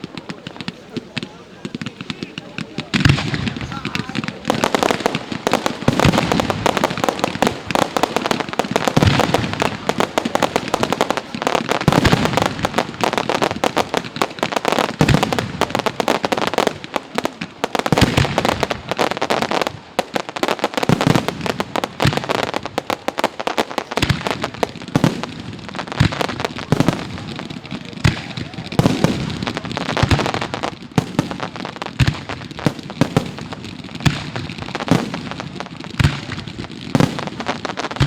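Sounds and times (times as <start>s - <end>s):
deep firework bangs: 0.0s - 38.0s
fireworks crackling and popping: 0.0s - 38.0s.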